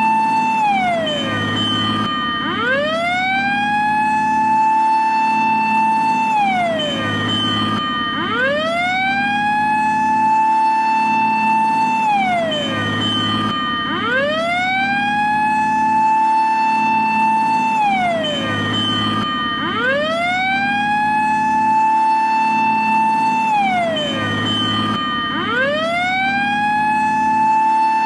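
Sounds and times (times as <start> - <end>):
fire engine siren wailing: 0.0 - 28.0.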